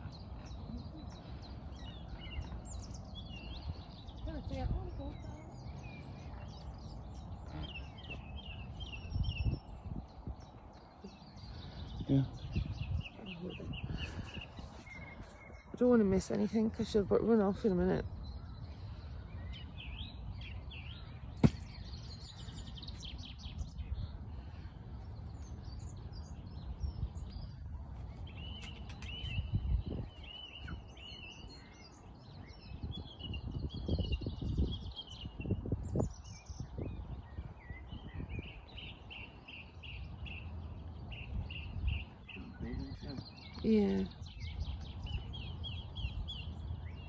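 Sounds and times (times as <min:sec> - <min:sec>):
wild birds chirping and singing: 0:00.0 - 0:47.0
wind noise on microphone: 0:00.0 - 0:47.0.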